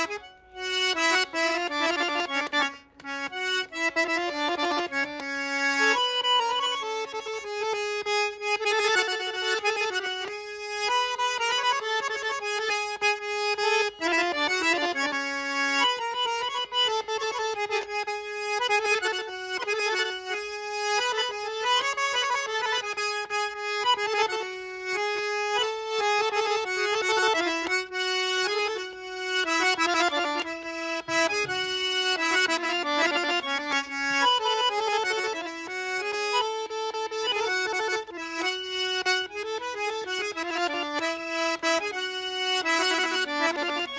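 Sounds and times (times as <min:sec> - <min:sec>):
button accordion melody: 0:00.0 - 0:43.9.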